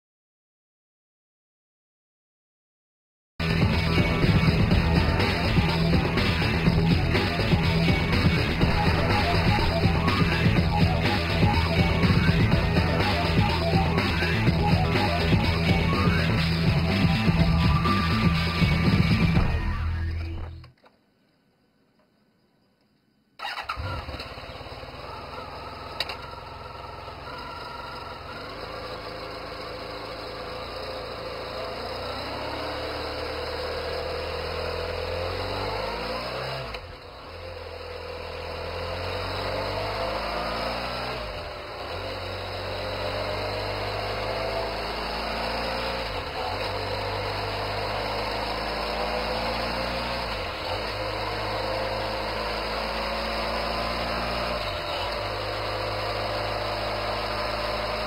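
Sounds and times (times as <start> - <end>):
motorcycle engine shifting gears: 3.4 - 21.0, 23.4 - 58.0.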